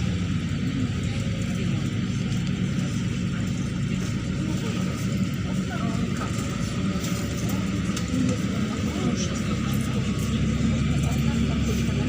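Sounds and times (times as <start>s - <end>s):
bus diesel engine running: 0.0s - 12.0s
road noise: 0.0s - 12.0s.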